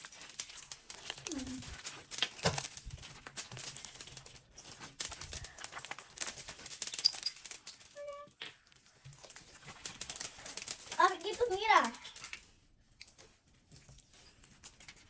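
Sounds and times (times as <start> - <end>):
plastic decorations rattling: 0.0 - 13.3.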